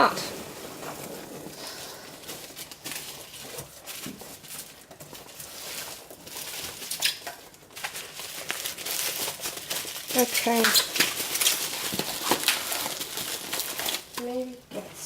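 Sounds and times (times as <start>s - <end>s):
packaging rustling: 0.0s - 14.6s.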